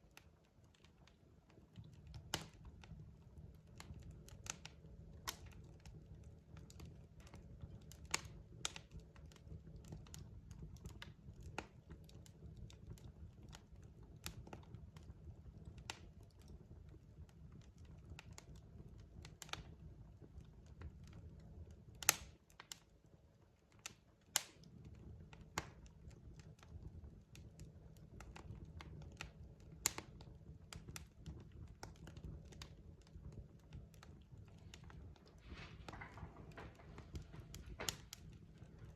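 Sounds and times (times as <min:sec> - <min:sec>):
fire popping and snapping: 0:00.0 - 0:38.9
low rumble of burning logs: 0:00.0 - 0:38.9.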